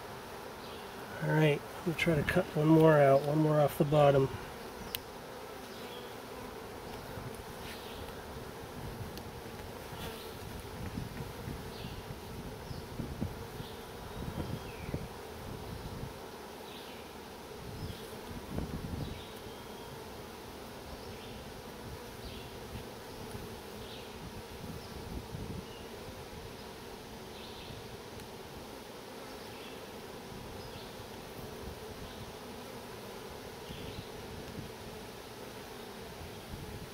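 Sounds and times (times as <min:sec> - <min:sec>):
honey bees buzzing: 0:00.0 - 0:36.9.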